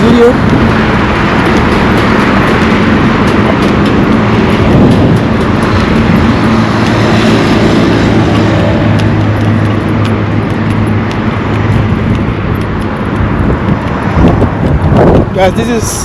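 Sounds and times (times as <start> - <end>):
low engine hum: 0.0 - 16.0
road traffic: 0.0 - 16.0.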